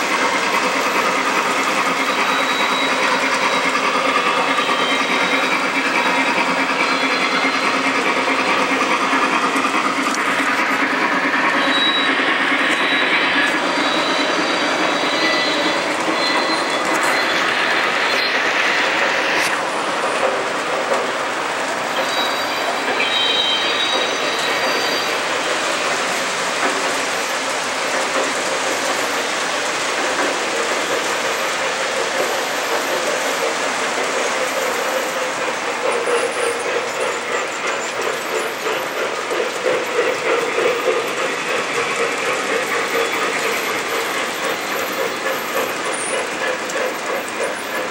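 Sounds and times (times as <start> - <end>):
model train wheels rumbling on track: 0.0 - 47.9.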